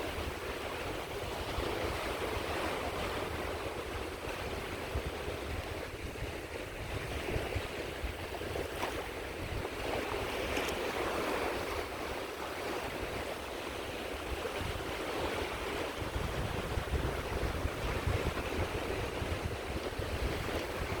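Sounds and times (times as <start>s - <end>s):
small sea waves washing onto beach: 0.0s - 21.0s
wind rumble on microphone: 0.0s - 21.0s.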